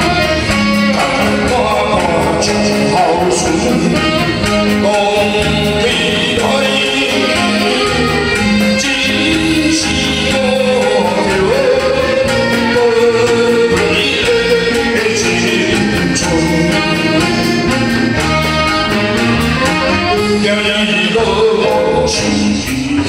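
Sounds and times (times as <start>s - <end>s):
man singing into a microphone: 0.0s - 18.4s, 19.8s - 23.0s
drums beating steadily: 0.0s - 23.0s
live band playing: 0.0s - 23.0s.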